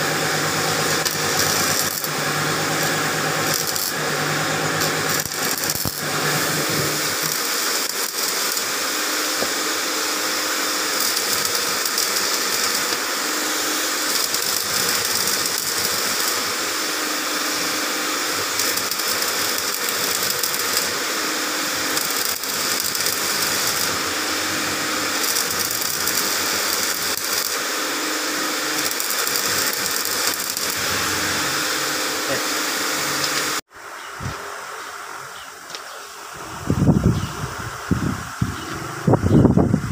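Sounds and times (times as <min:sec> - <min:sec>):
arc welding crackling hiss: 0:00.0 - 0:39.9.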